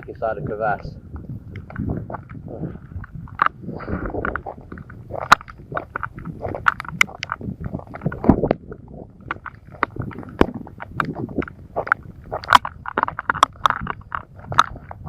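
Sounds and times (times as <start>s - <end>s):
footsteps on wet rough ground: 0.0s - 15.0s
low rumble: 0.0s - 15.0s
handling noise: 1.1s - 15.0s
sharp clicks and knocks: 1.2s - 15.0s.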